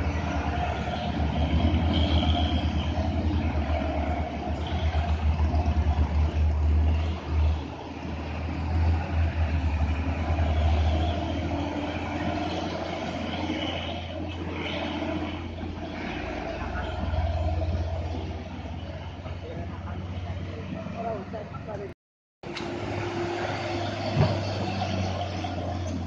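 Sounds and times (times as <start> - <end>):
diesel truck engines rumbling: 0.0 - 26.0.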